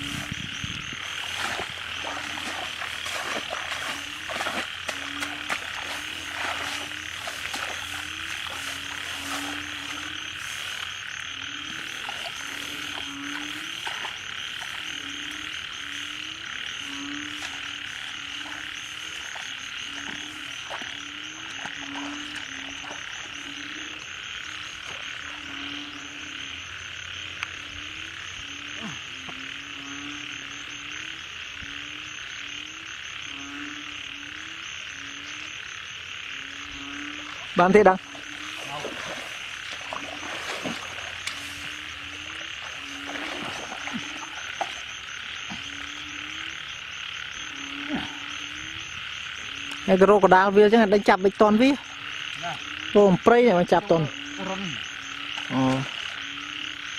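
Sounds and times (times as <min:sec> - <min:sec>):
frogs croaking: 0:00.0 - 0:56.9.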